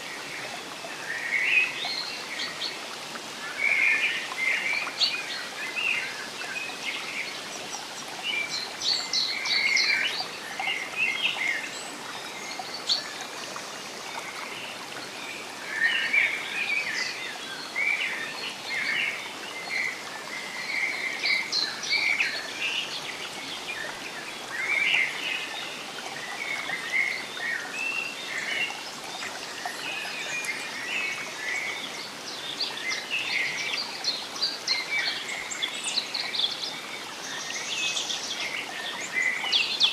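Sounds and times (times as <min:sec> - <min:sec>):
running water hiss: 0:00.0 - 0:39.9
songbirds chirping: 0:00.0 - 0:39.9.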